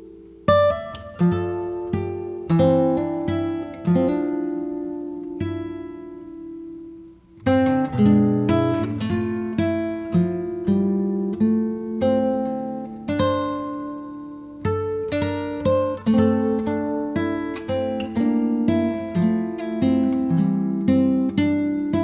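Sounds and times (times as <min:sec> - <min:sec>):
plucked acoustic guitar: 0:00.0 - 0:22.0.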